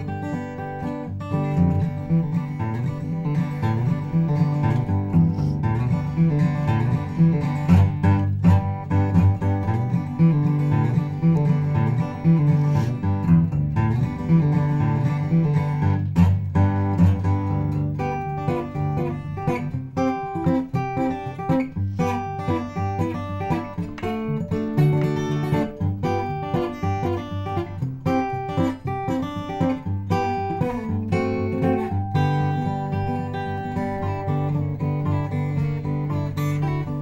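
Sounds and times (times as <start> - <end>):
acoustic guitar fingerpicking: 0.0 - 37.0.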